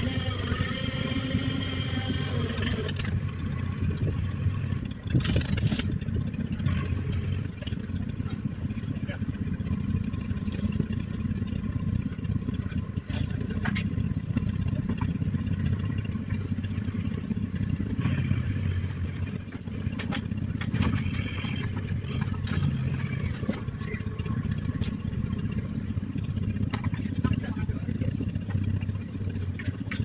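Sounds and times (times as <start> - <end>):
crawler engine running: 0.0 - 30.0.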